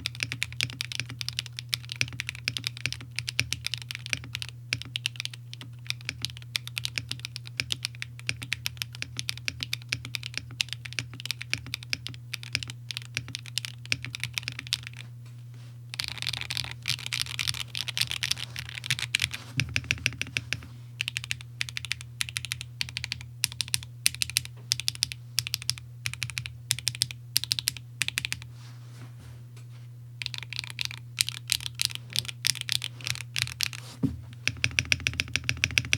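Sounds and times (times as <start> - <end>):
mechanical keyboard typing: 0.0 - 15.0, 16.0 - 28.4, 30.2 - 35.9.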